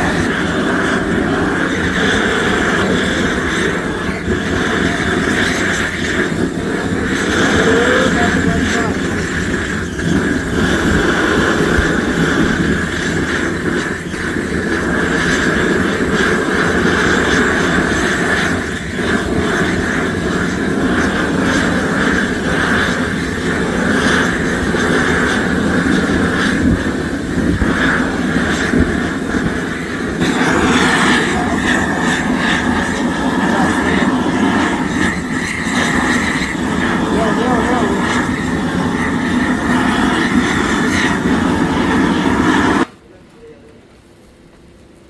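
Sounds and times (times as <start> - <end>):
machinery droning: 0.0 - 43.8.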